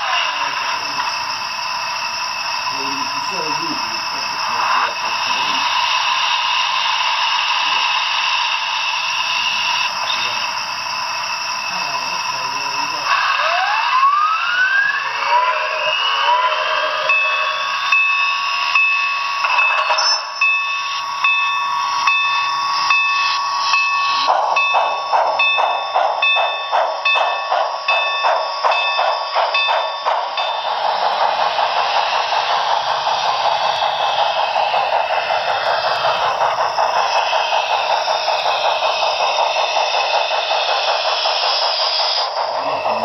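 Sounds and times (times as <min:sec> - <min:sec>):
locomotive bell ringing: 0:00.0 - 0:43.0
steam locomotive chuffing: 0:00.0 - 0:43.0.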